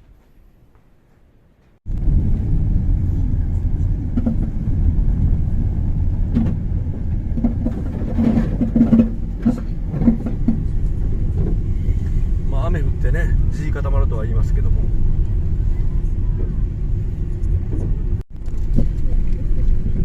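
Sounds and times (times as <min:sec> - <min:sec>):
car driving on snowy road: 0:01.9 - 0:20.0.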